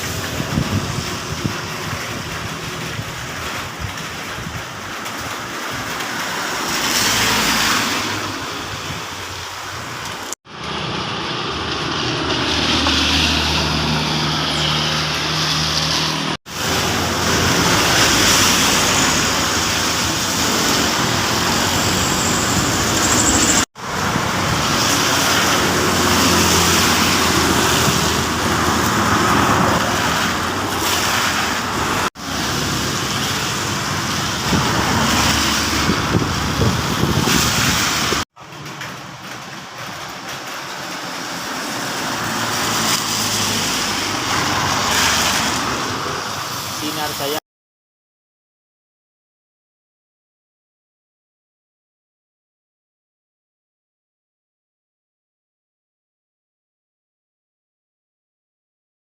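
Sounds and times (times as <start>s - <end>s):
heavy rain: 0.0s - 47.4s
tyre spray on wet road: 0.0s - 47.4s.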